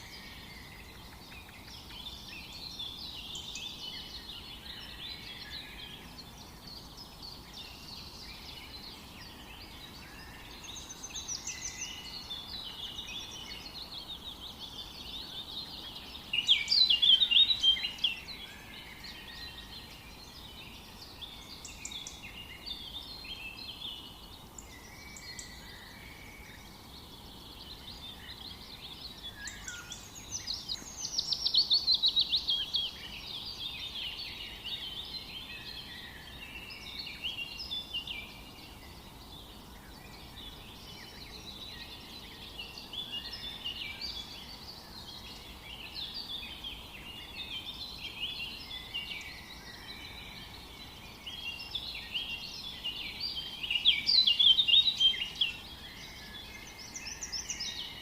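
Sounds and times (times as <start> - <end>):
faint steady hiss: 0.0 - 58.0
songbirds chirping and trilling: 0.0 - 58.0.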